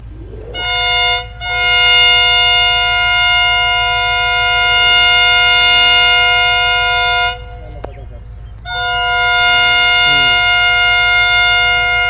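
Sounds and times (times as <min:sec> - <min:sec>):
locomotive air horn chord: 0:00.6 - 0:07.6, 0:08.7 - 0:12.0.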